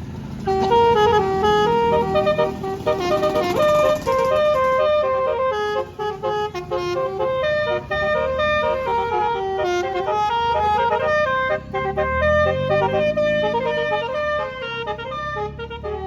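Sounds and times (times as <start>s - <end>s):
musical bus horn tune: 0.3s - 16.0s.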